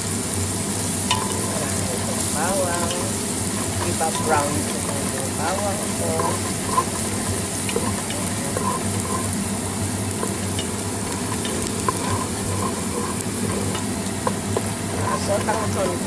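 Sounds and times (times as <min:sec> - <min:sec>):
ginger and garlic sizzling in oil: 0:00.0 - 0:16.0
range hood fan humming: 0:00.0 - 0:16.0
spatula tapping pan: 0:01.0 - 0:16.0
wooden spatula scraping pan: 0:01.1 - 0:16.0.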